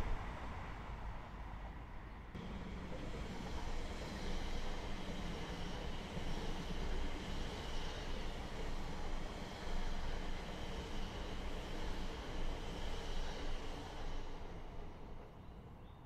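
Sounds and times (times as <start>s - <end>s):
train running on rails: 0.0s - 16.0s.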